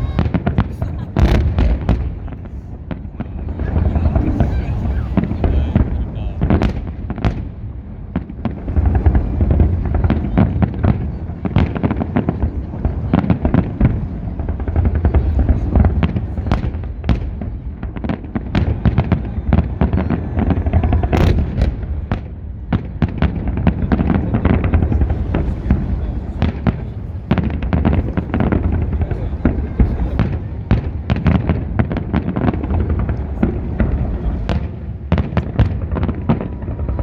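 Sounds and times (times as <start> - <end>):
low rumble: 0.0 - 22.7, 23.4 - 37.0
fireworks cracks and bangs: 0.0 - 37.0.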